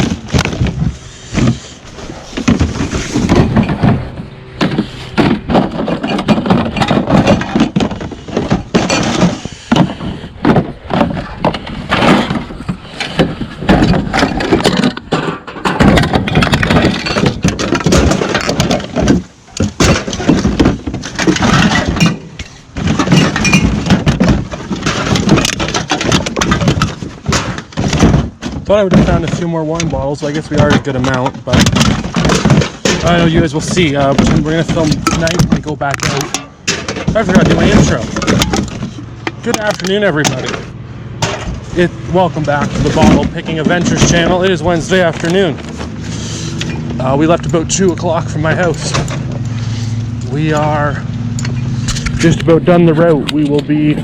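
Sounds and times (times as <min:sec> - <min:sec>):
scrap clattering and thudding: 0:00.0 - 0:54.0.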